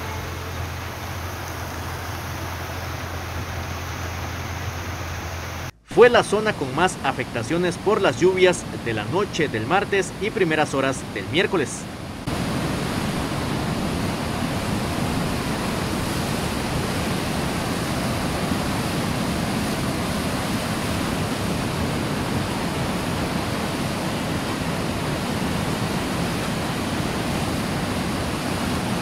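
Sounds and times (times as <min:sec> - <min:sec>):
river rushing over rocks: 0:00.0 - 0:29.0.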